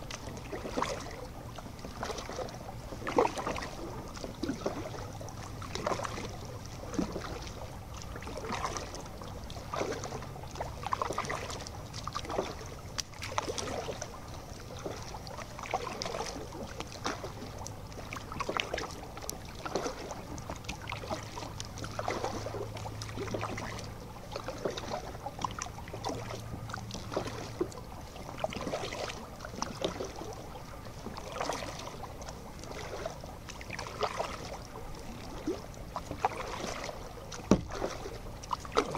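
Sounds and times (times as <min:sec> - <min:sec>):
paddle splashing in water: 0:00.0 - 0:38.9.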